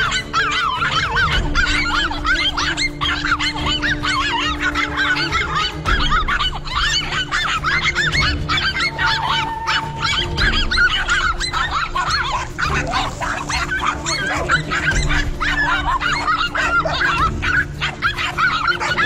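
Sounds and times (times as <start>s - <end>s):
dogs barking and yapping: 0.0s - 19.0s.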